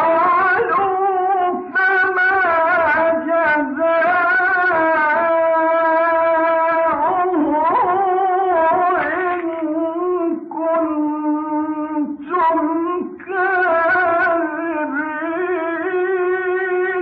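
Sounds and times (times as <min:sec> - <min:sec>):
man chanting recitation: 0:00.0 - 0:17.0.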